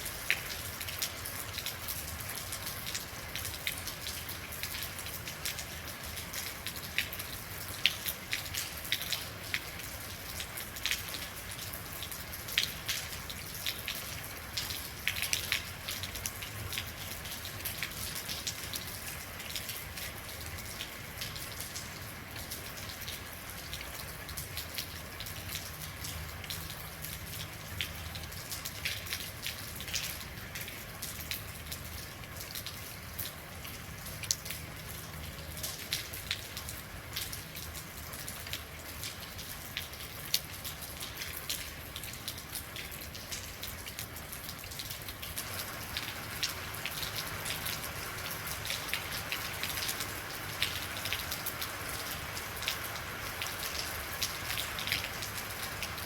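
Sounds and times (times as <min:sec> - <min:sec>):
rain drops on hard surface: 0:00.0 - 0:56.0.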